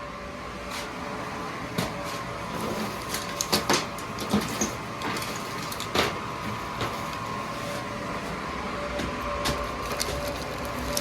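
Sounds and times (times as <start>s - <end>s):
gas boiler humming: 0.0s - 11.0s.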